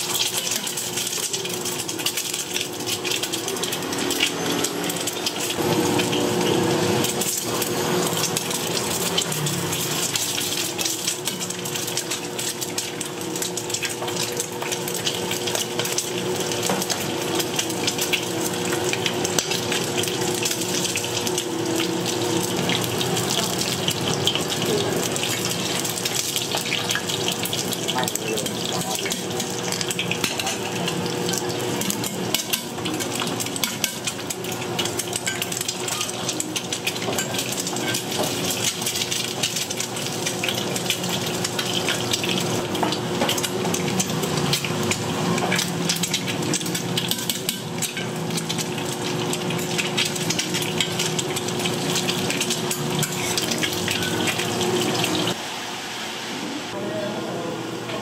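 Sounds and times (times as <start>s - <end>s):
metal utensils clinking: 0.0s - 55.4s
pancakes sizzling in hot oil: 0.0s - 56.4s.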